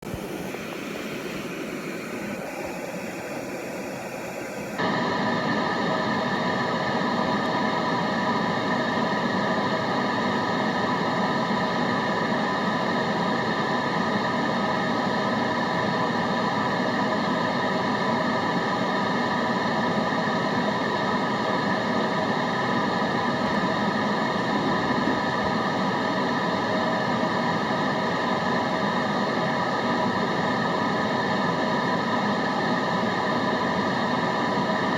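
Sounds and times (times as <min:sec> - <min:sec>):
white noise: 0:00.0 - 0:34.9.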